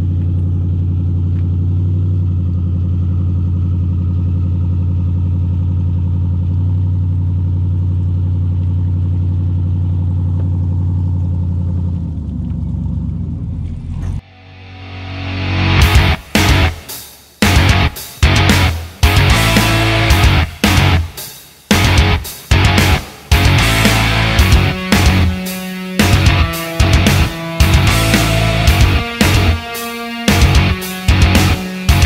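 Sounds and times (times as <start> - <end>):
truck engine humming: 0.0 - 14.2, 15.2 - 32.0.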